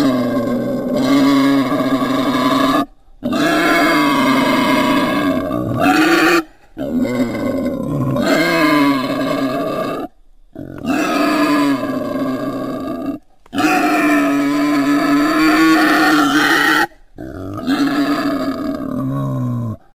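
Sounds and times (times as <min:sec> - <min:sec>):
wild boar piglets calling: 0:00.0 - 0:19.2.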